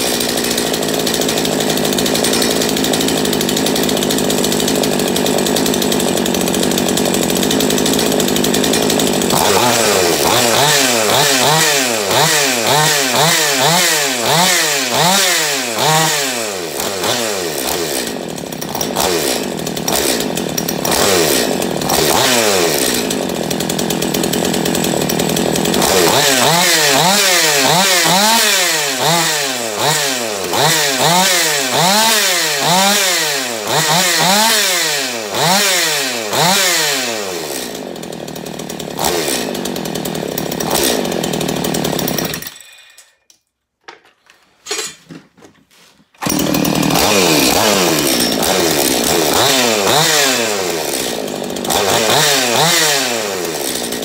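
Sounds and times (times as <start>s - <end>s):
chainsaw engine running: 0.0s - 43.0s, 45.7s - 54.0s.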